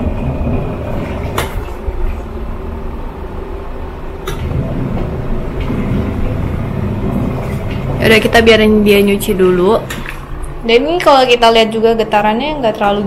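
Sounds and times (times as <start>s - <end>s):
washing machine churning: 0.0s - 13.0s.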